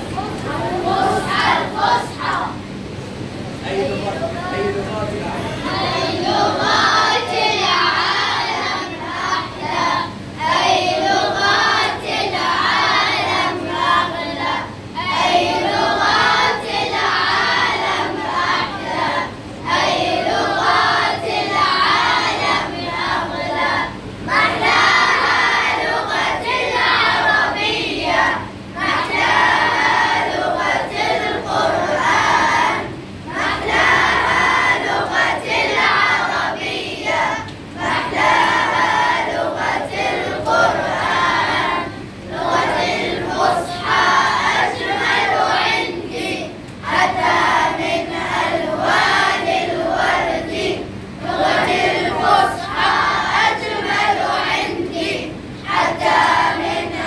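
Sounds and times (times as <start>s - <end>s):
children singing together: 0.0s - 2.6s, 5.5s - 57.0s.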